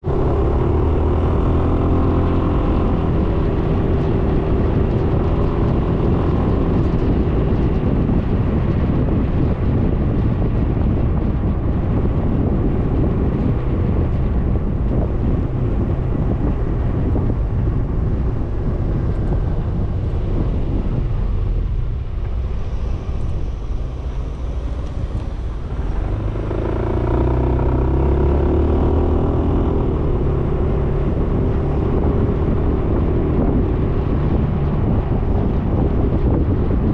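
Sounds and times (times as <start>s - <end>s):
road noise: 0.0s - 36.9s
wind: 0.0s - 36.9s.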